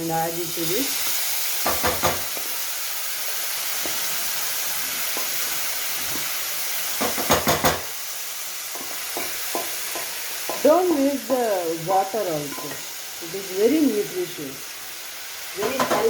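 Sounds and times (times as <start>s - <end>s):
dal mixture sizzling in oil: 0.0s - 16.0s.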